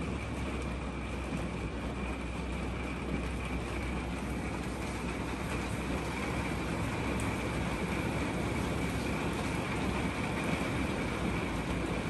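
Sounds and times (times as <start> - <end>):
heavy rain on trailer roof: 0.0 - 12.0.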